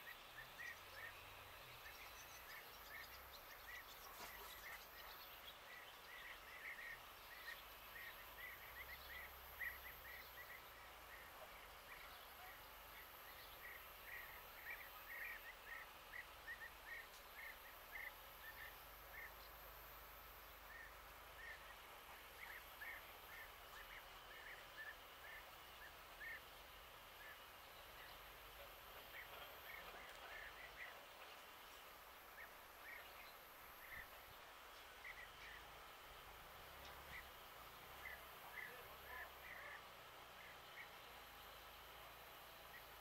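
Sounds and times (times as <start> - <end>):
bird chirping: 0.0 - 35.8.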